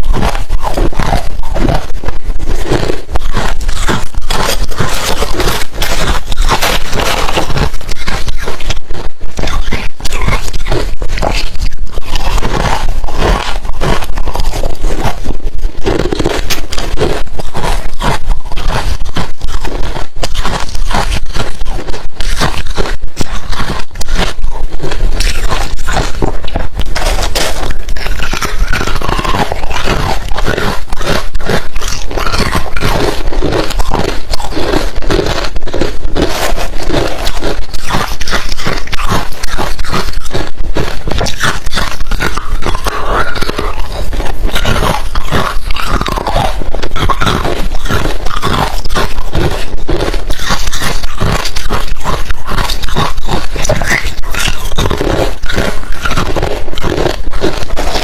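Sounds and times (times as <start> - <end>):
chewing crushed ice: 0.0 - 58.0
wet mouth sounds: 0.0 - 58.0.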